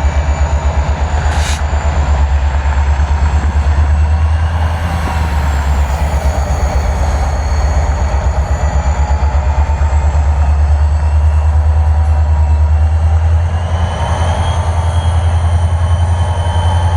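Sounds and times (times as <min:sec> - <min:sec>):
freight train rumbling: 0:00.0 - 0:16.9.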